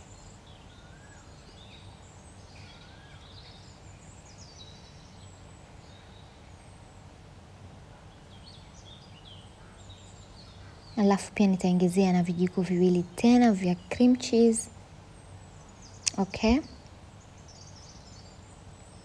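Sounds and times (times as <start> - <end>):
faint birds chirping: 0.0 - 19.0
low background hum: 0.0 - 19.0.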